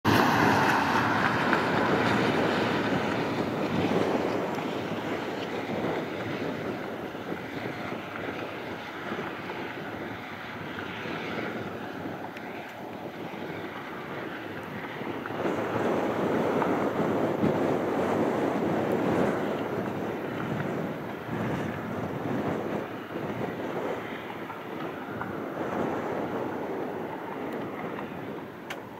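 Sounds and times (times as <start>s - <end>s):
gusty wind buffeting microphone: 0.0s - 28.9s.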